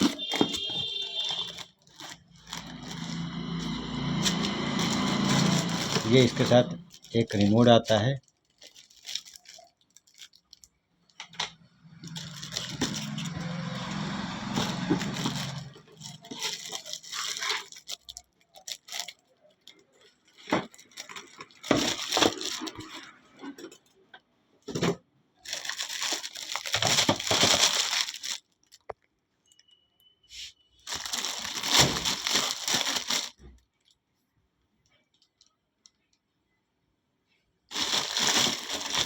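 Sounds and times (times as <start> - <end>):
plastic wrap and box crinkling: 0.0 - 23.8, 25.4 - 29.0, 30.8 - 33.9, 37.7 - 39.0.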